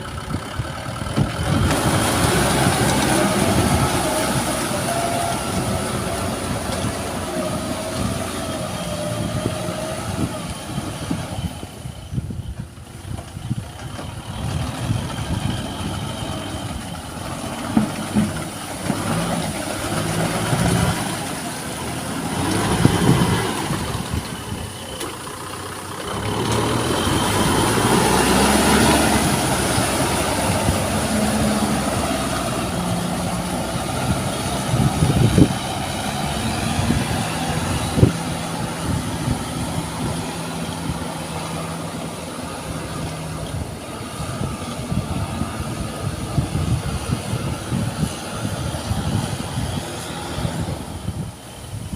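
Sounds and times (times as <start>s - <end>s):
tractor engine under load: 0.0s - 51.9s.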